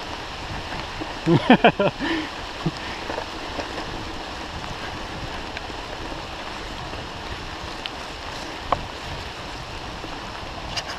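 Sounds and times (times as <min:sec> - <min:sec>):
bike tyre and wind noise: 0:00.0 - 0:10.9.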